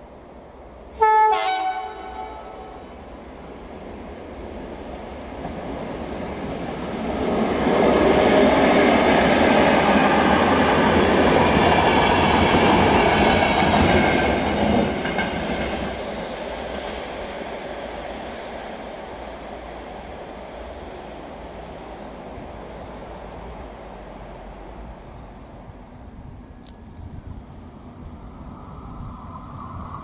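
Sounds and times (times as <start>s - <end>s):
train passing on rails: 0.0s - 30.0s.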